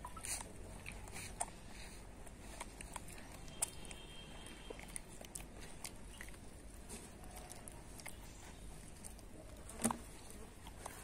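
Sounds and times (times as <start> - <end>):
monkey chewing and crunching: 0.0 - 11.0.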